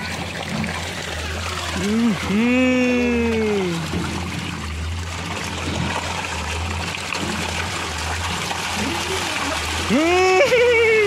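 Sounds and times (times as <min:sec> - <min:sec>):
fish splashing at water surface: 0:00.0 - 0:11.0.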